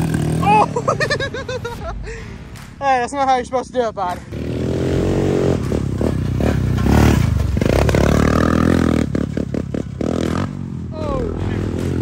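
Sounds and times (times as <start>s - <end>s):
dirt bike engine revving: 0.0s - 1.7s, 4.1s - 12.0s.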